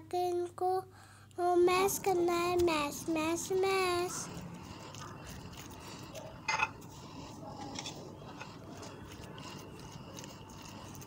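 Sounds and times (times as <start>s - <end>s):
fork mashing potatoes: 2.0s - 11.0s.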